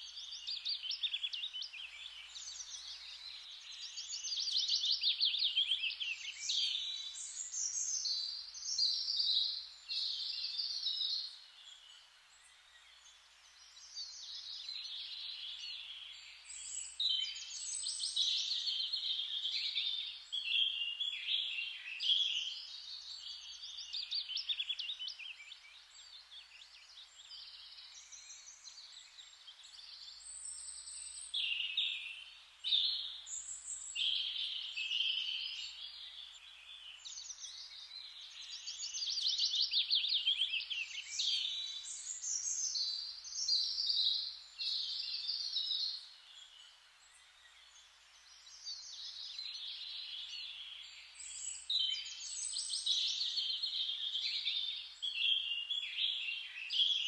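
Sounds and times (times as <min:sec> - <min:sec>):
soft steady hiss: 0:00.0 - 0:57.0
songbirds singing: 0:00.0 - 0:57.0.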